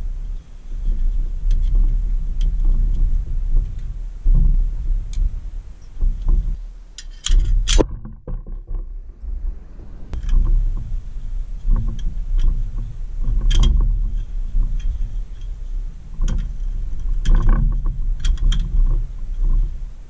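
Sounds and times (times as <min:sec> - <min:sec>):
low rumble of handling: 0:00.0 - 0:20.0.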